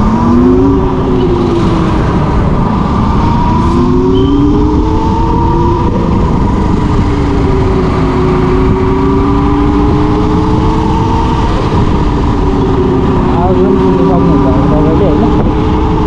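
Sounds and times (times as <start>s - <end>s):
electric motorcycle hum: 0.0s - 16.0s
wind buffeting microphone: 0.0s - 16.0s.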